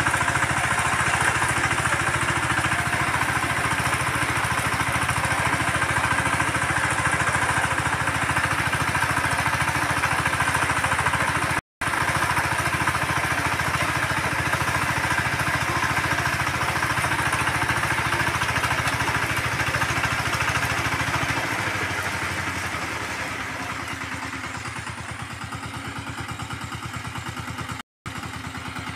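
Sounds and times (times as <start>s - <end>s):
rotary tines churning soil: 0.0s - 26.5s
diesel tiller engine chugging: 0.0s - 28.9s.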